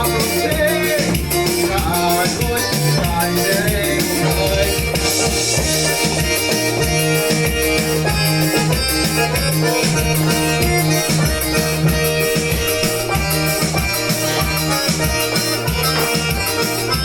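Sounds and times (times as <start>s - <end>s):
accordion-like melody: 0.0s - 17.0s
repeating bass line: 0.0s - 17.0s
steady drum beat: 0.0s - 17.0s.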